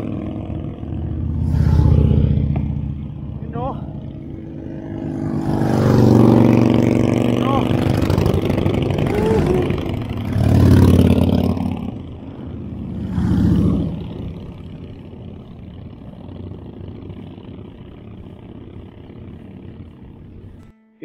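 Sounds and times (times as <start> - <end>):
motorcycles passing by: 0.0 - 20.7.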